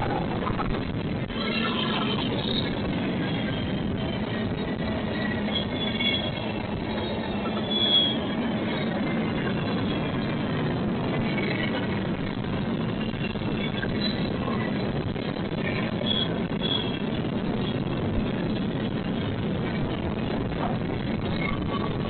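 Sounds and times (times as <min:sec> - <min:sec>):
train rumbling past: 0:00.0 - 0:22.0
high wheel squeals: 0:01.2 - 0:19.5.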